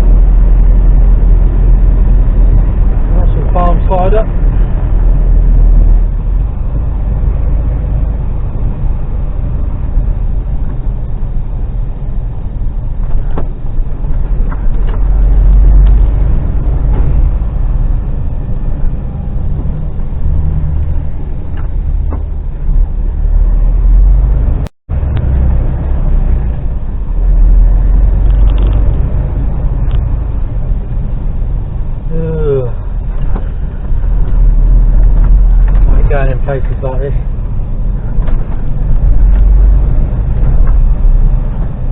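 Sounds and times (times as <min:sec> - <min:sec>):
diesel lorry engine running: 0:00.0 - 0:41.9
road noise: 0:00.0 - 0:41.9.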